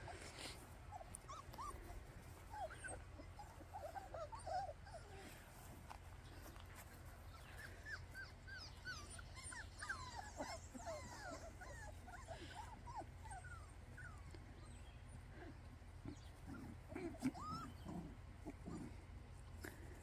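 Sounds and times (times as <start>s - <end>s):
puppies whimpering and yipping: 0.0s - 20.0s.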